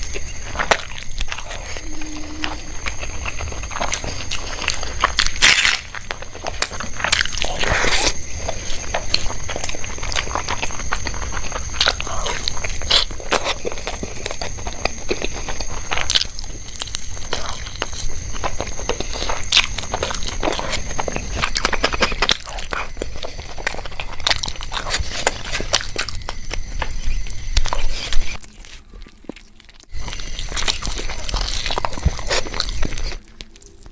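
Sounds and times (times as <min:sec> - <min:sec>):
chewing crunchy food: 0:00.0 - 0:33.9.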